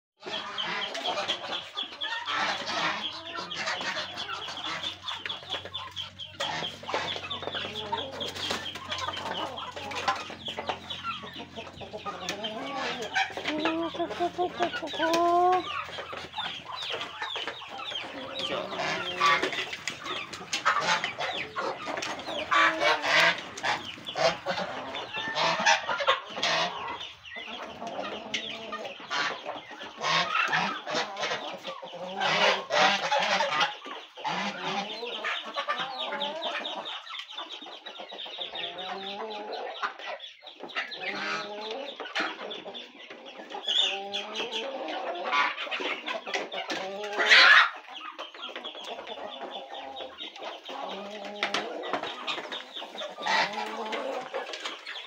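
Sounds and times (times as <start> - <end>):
chickens and ducks clucking: 0.2 - 55.0.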